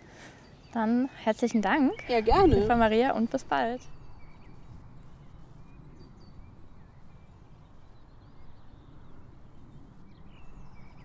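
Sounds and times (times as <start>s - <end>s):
faint bird chirps: 0.4s - 11.0s.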